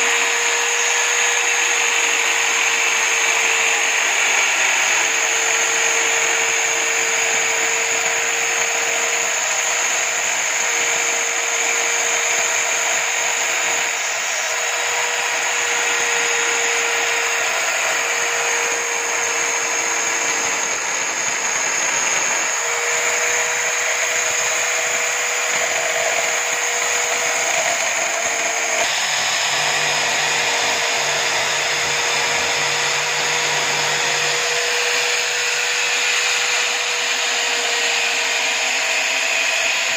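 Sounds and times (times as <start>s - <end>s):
electric drill motor whining: 0.0s - 39.9s.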